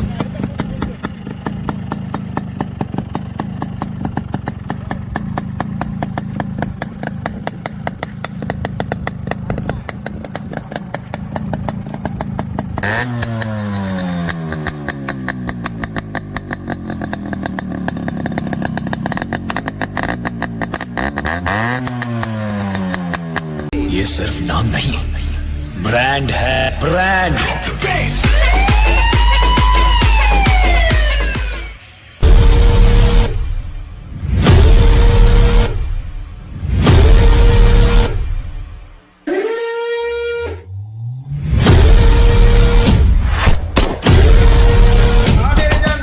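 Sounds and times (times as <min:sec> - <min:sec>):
two-stroke motorcycle engine revving: 0:00.0 - 0:39.3, 0:40.8 - 0:46.0.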